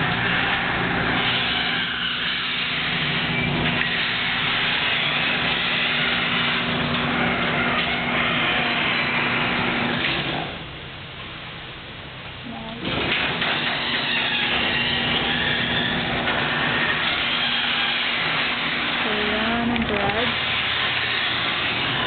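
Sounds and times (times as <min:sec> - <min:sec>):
garage door travelling: 0:00.0 - 0:10.7, 0:12.8 - 0:19.1, 0:20.2 - 0:22.0
garage door motor humming: 0:00.0 - 0:22.0.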